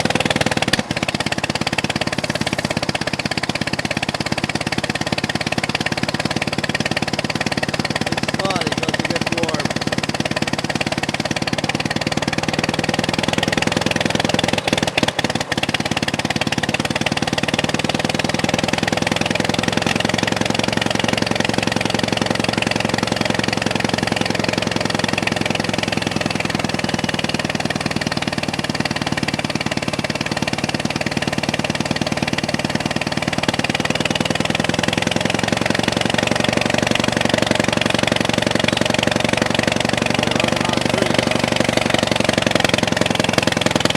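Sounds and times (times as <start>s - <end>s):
tractor engine running with misfire: 0.0s - 43.9s.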